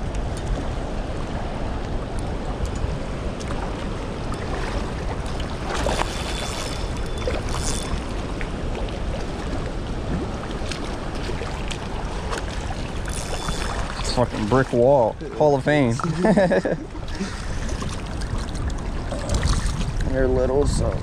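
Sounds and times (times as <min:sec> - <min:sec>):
wind on microphone: 0:00.0 - 0:21.0
river water rushing: 0:00.6 - 0:19.8.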